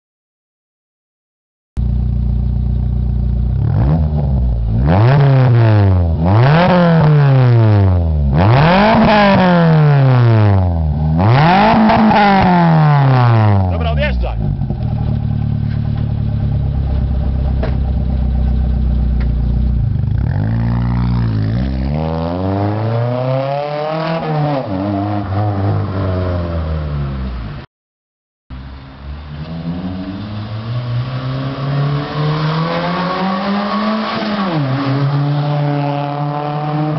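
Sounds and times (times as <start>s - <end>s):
car engine revving: 1.8s - 27.6s, 28.6s - 36.9s.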